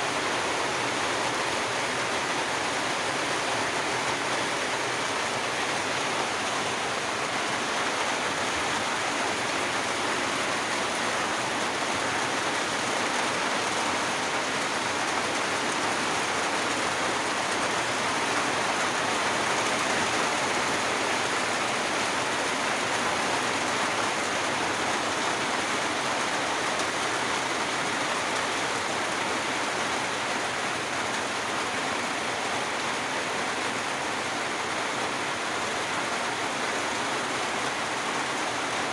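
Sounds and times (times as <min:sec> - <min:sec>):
steady rain in forest: 0:00.0 - 0:38.9.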